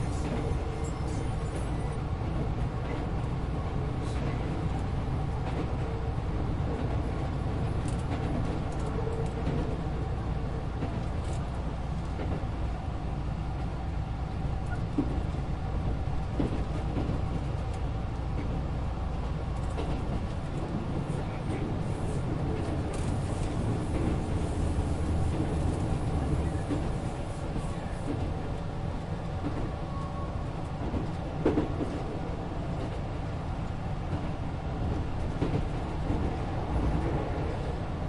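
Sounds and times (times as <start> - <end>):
train rumbling inside carriage: 0.0 - 38.0.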